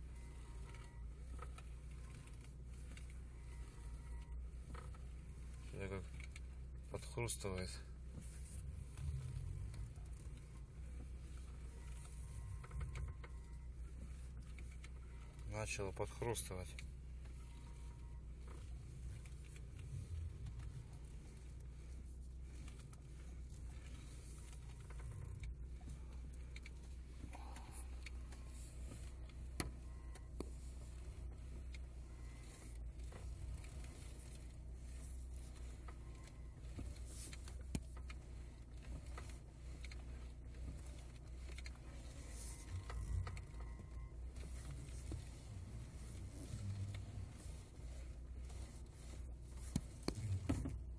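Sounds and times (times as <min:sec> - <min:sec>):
car engine idling: 0:00.0 - 0:50.9
power steering crunching clicks: 0:00.3 - 0:50.9.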